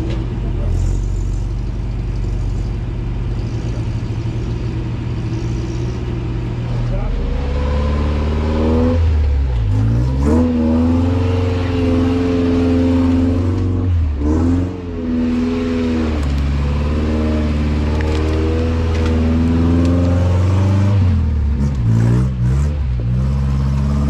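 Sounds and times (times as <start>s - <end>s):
pickup truck engine revving: 0.0s - 24.0s.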